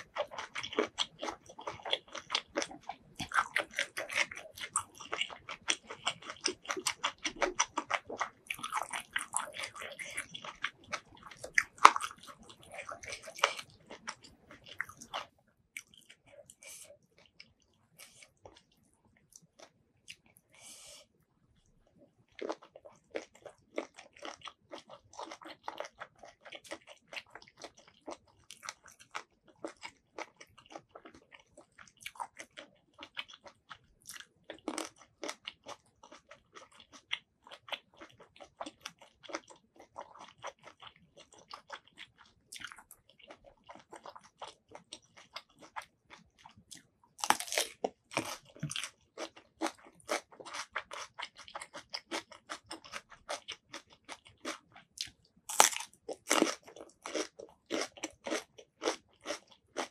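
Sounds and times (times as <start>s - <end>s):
close-miked chewing and crunching: 0.0s - 59.9s.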